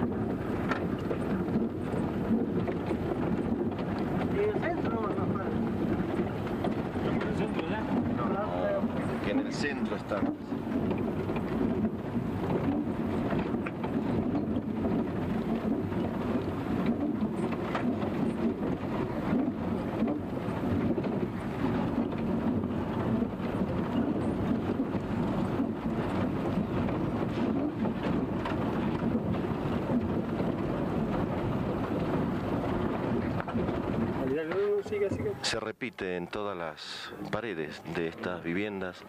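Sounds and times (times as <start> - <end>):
knocks and rattles: 0.0 - 35.4
vehicle engine and road rumble: 0.0 - 35.7.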